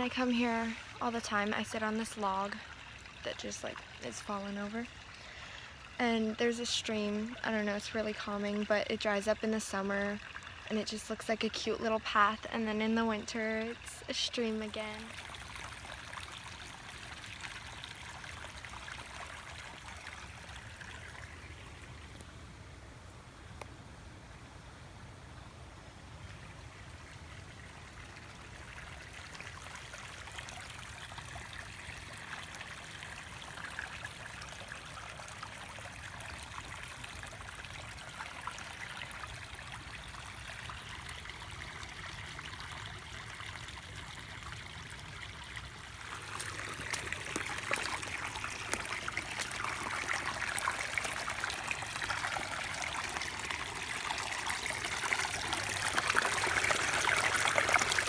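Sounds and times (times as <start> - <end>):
stream trickling and babbling: 0.0 - 58.0.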